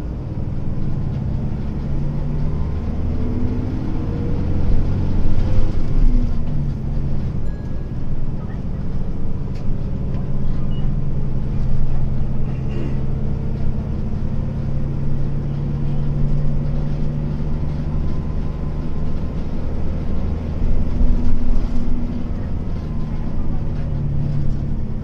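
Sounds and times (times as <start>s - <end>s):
bus diesel engine drone: 0.0s - 25.0s
road noise: 0.0s - 25.0s.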